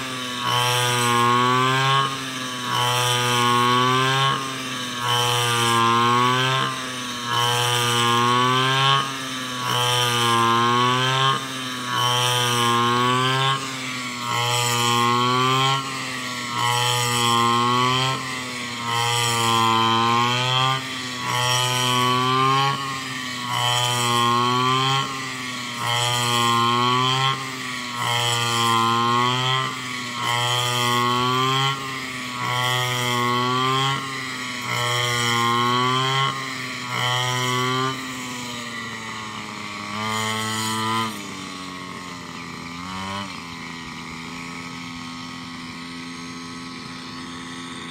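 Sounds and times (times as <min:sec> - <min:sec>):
brush cutter engine running hard: 0:00.0 - 0:47.9.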